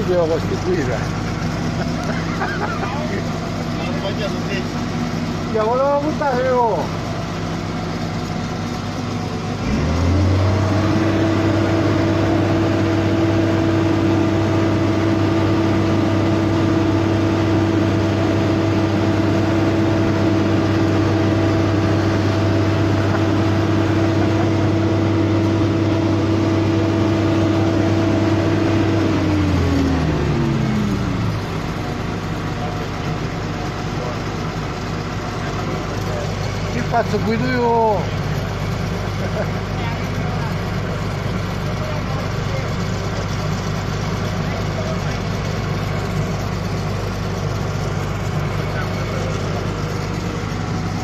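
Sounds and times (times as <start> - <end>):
diesel engine revving: 0.0 - 51.0.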